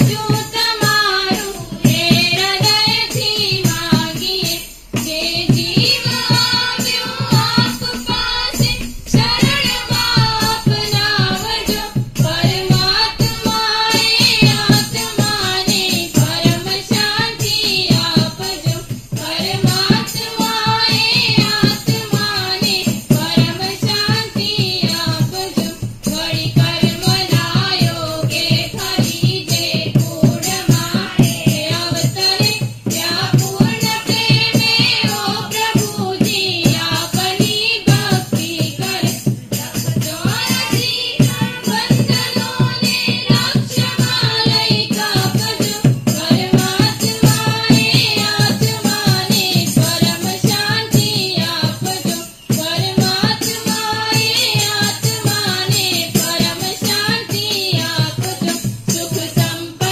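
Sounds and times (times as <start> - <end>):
fast percussion beat: 0.0 - 59.9
group singing devotional song: 0.0 - 59.9.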